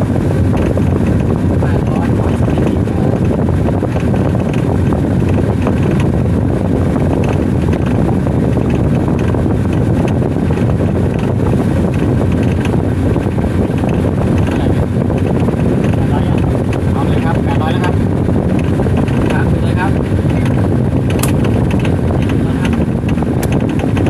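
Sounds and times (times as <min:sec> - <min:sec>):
washing machine motor whirring: 0:00.0 - 0:24.0.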